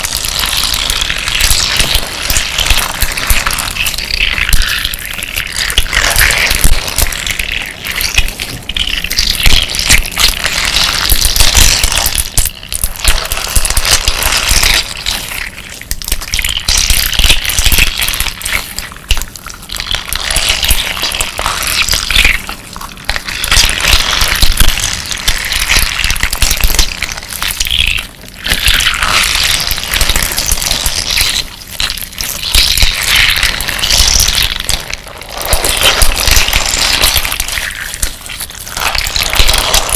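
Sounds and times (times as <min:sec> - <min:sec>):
slime squelching: 0:00.0 - 0:39.9.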